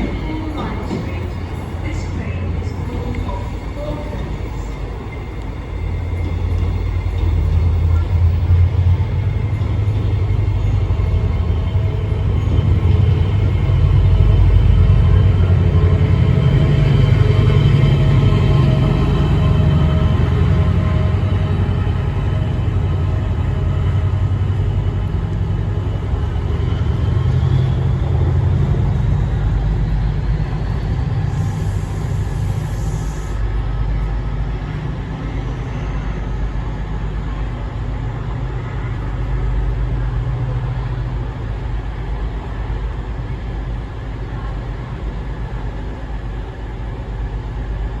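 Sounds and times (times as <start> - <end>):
locomotive engine rumbling: 0.0 - 48.0
train wheels on rails: 0.0 - 48.0.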